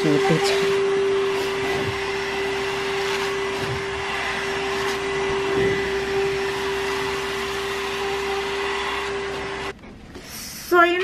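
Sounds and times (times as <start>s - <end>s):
vacuum cleaner running: 0.0s - 9.8s.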